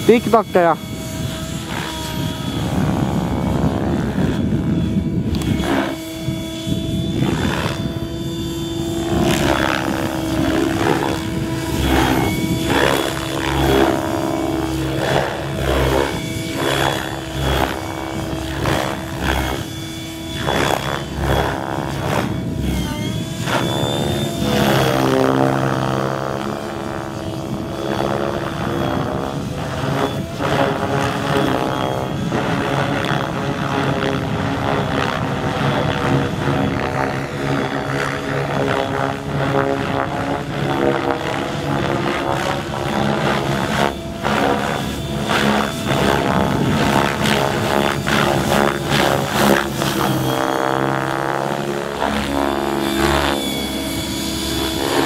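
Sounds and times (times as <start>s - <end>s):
helicopter rotor blades pulsing: 0.0s - 55.0s
motor and gear whine: 0.0s - 55.0s.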